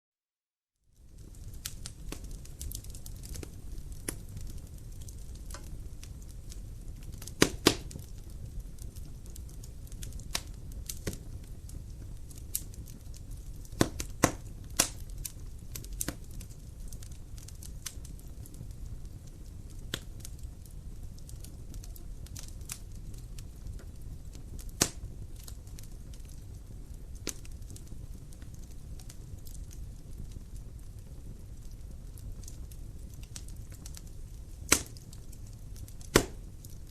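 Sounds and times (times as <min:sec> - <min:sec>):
fire crackling and popping: 0:00.8 - 0:36.9
fire flames rumbling: 0:00.8 - 0:36.9.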